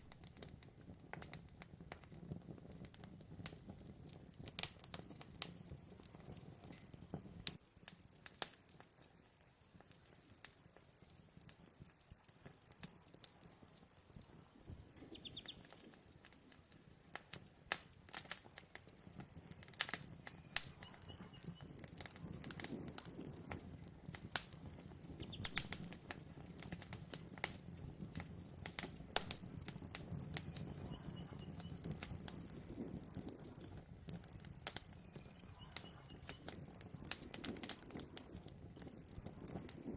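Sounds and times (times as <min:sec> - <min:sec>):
campfire crackling: 0:00.0 - 0:39.9
crickets chirping: 0:05.0 - 0:23.6, 0:24.2 - 0:39.9.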